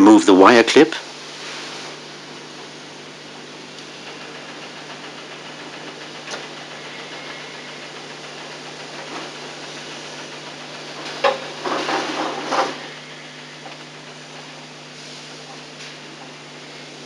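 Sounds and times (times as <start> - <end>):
tape hum and hiss: 0.0 - 17.0.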